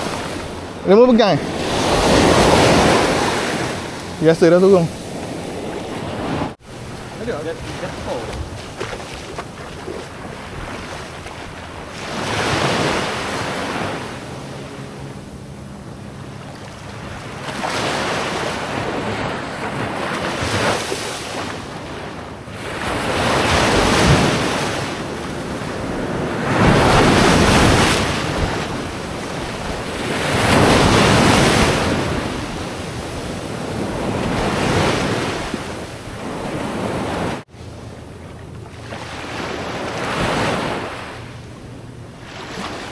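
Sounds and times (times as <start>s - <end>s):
wind buffeting microphone: 0.0s - 37.4s
waves washing in: 0.0s - 42.9s.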